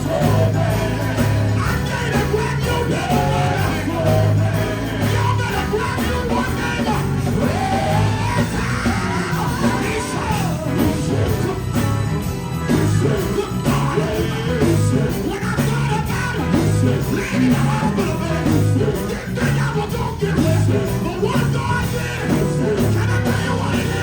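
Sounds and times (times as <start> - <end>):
live gospel band playing: 0.0 - 24.0
singer shouting and singing: 0.0 - 24.0.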